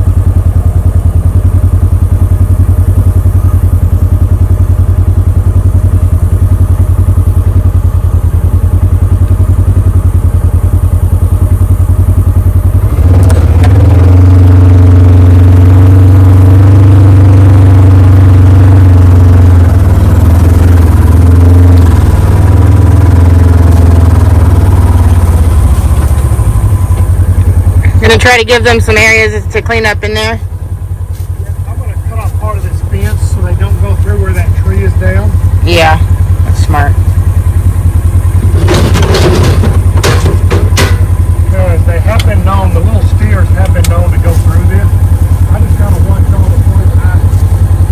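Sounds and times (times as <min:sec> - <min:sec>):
small vehicle engine rumbling: 0:00.0 - 0:47.9.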